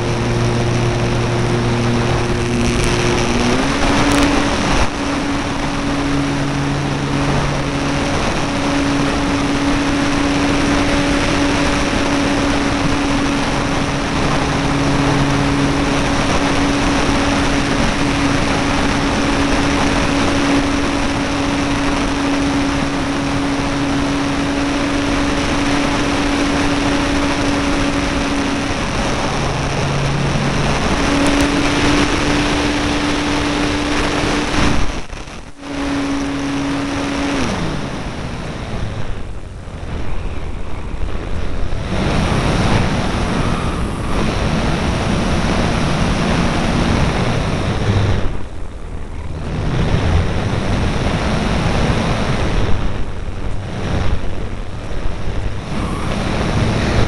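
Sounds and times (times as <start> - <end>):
model airplane electric motor droning: 0.0 - 57.0
wind rushing over microphone: 0.0 - 57.0.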